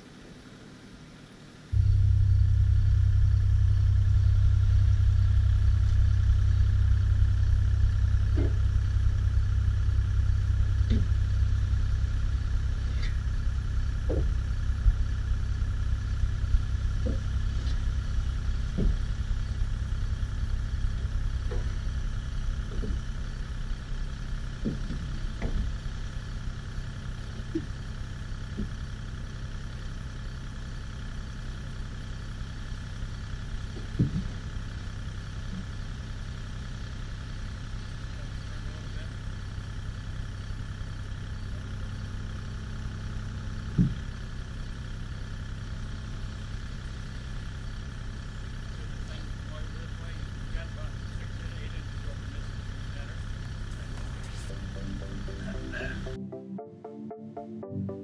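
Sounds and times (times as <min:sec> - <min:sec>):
excavator diesel engine running: 0:00.0 - 0:56.3.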